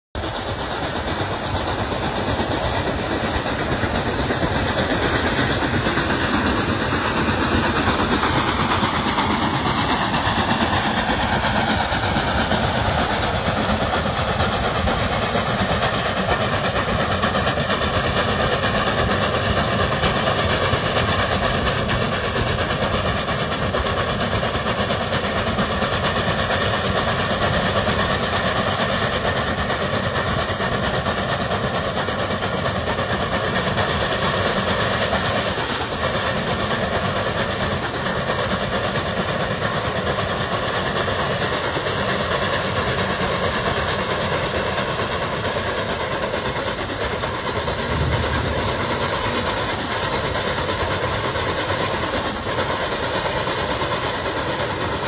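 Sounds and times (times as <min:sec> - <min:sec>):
steam locomotive running: 0:00.2 - 0:55.0.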